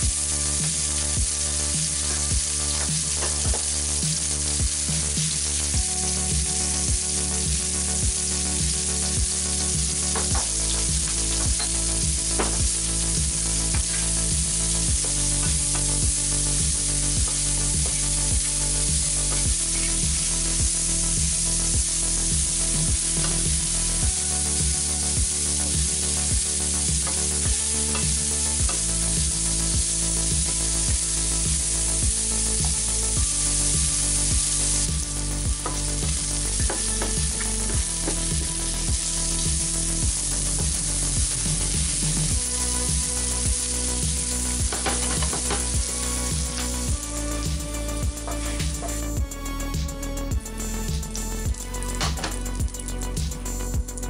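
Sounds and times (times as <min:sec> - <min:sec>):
onions sizzling in a pan: 0:00.1 - 0:49.1.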